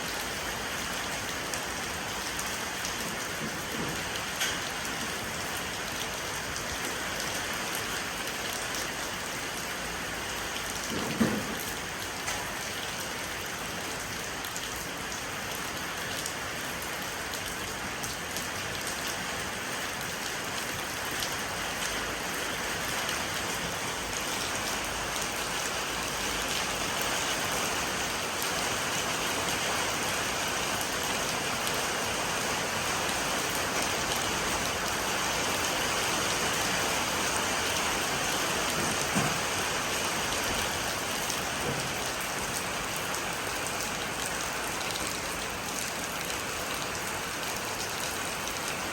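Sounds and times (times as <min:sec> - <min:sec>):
rain falling on a porch: 0:00.0 - 0:48.9.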